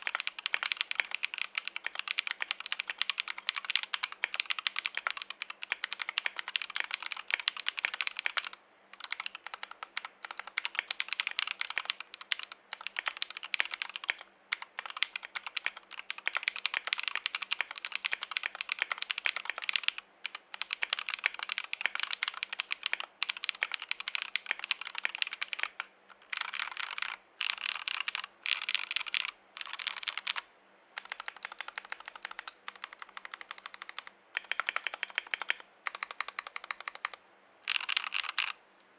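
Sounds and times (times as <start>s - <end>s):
mechanical keyboard typing: 0.0s - 30.4s, 31.0s - 38.6s.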